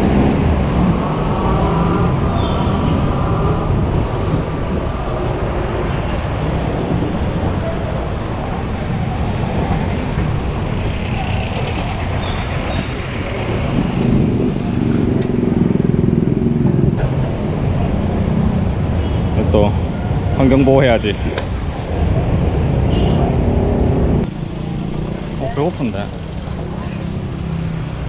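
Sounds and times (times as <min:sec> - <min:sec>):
street traffic passing: 0:00.0 - 0:28.0.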